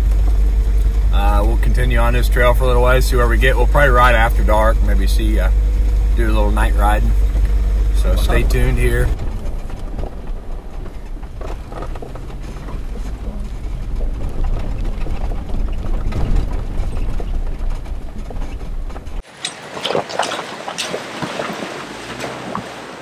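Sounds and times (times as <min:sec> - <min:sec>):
engine and tyres rumbling: 0:00.0 - 0:23.0
knocks and rattles on rocky ground: 0:03.7 - 0:23.0.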